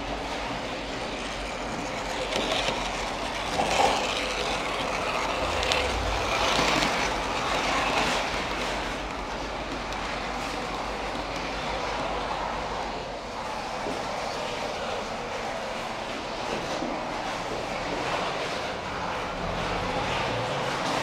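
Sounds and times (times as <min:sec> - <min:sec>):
model train motor and wheels whirring: 0:00.0 - 0:21.0.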